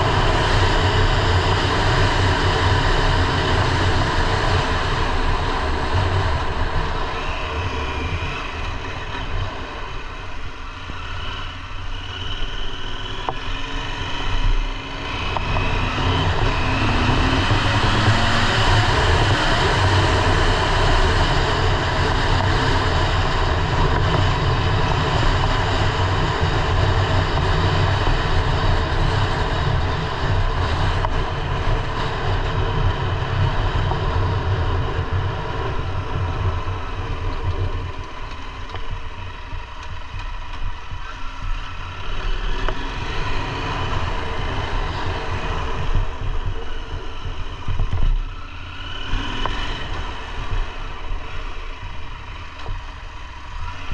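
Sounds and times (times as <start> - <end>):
motorcycle engine running: 0.0 - 53.9
steady noise haze: 0.0 - 53.9.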